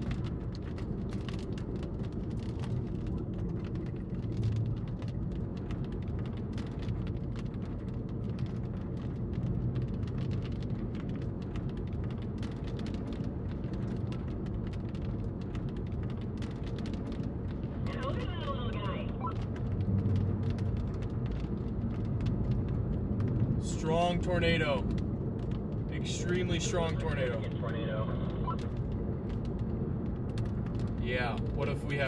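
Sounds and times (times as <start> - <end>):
road and engine rumble: 0.0 - 32.0.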